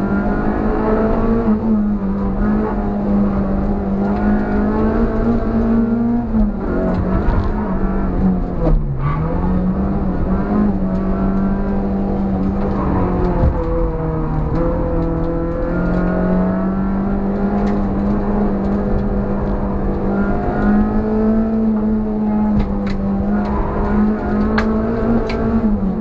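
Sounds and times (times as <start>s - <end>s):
car engine at high revs: 0.0s - 26.0s.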